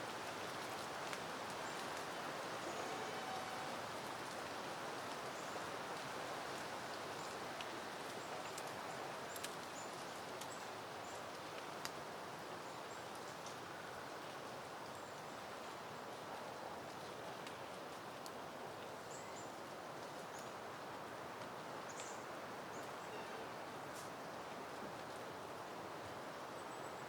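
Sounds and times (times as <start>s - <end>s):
wind rustling plant leaves: 0.0s - 27.0s.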